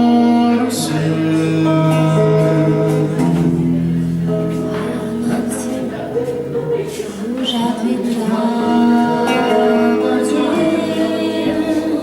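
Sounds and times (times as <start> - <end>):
man singing: 0.0 - 3.4, 4.6 - 6.2, 6.8 - 12.0
acoustic guitar: 0.0 - 12.0.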